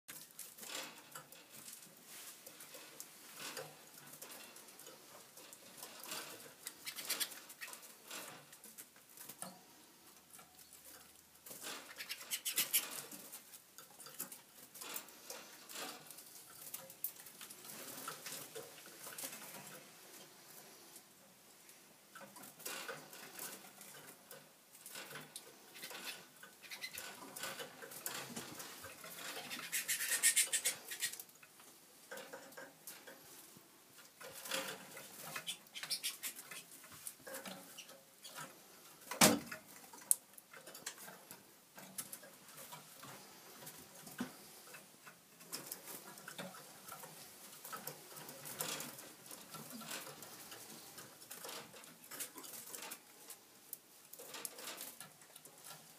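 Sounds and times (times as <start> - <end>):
birds' feet scratching and ticking: 0.1 - 21.3, 22.1 - 55.9.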